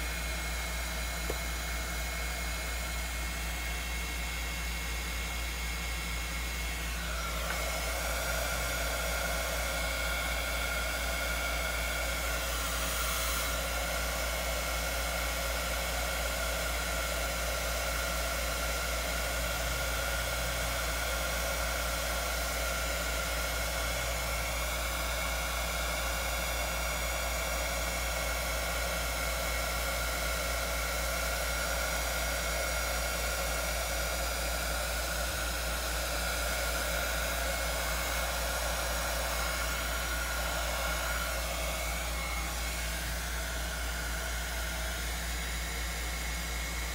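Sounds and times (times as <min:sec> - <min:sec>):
fan motor whine: 0:00.0 - 0:46.9
heat gun blowing air: 0:00.0 - 0:46.9.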